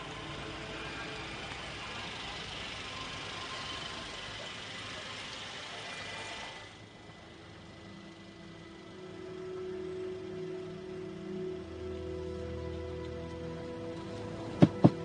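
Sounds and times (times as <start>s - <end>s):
car engine idling: 0.0s - 15.0s
street ambience hiss: 0.0s - 15.0s.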